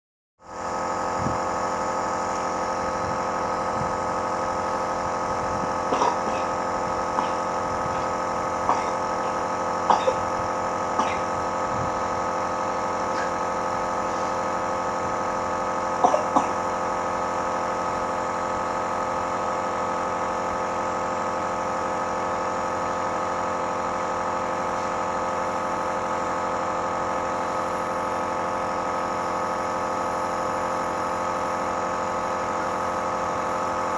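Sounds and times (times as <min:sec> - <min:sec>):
compressor pump buzzing hum: 0:00.4 - 0:33.9.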